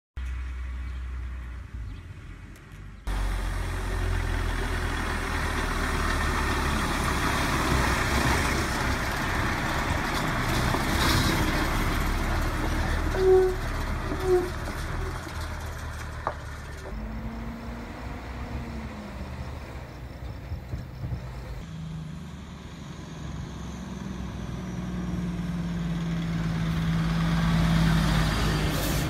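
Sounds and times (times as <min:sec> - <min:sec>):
road noise: 0:00.2 - 0:29.0
truck engine rumble: 0:00.2 - 0:29.0.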